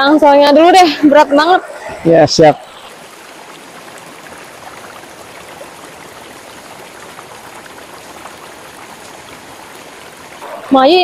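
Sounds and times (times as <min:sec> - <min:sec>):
river flowing: 0:00.0 - 0:11.0.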